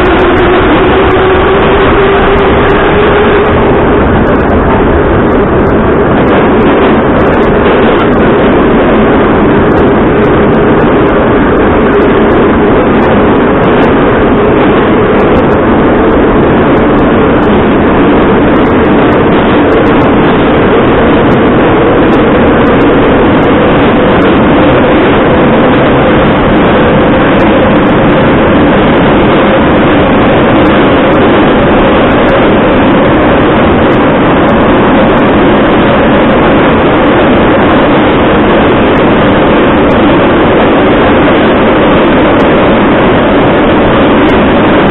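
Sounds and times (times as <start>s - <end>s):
faint rising whine: 0.0s - 44.9s
train wheels rumbling on rails: 0.0s - 44.9s.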